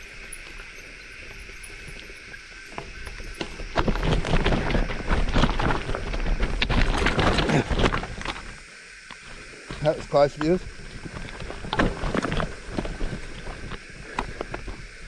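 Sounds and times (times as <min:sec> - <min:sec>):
mountain bike rattling over trail: 0:00.0 - 0:08.6, 0:09.8 - 0:15.0.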